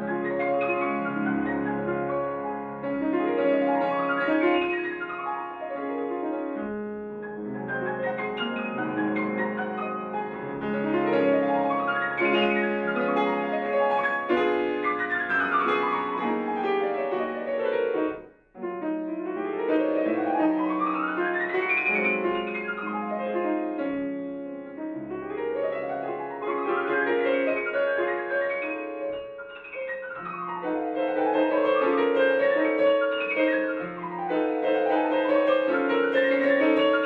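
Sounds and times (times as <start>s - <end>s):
grand piano runs and arpeggios: 0.0s - 37.0s.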